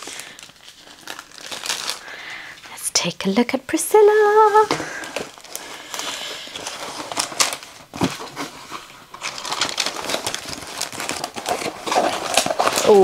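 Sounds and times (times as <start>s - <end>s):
plastic film crinkling: 0.0s - 2.8s, 4.1s - 13.0s.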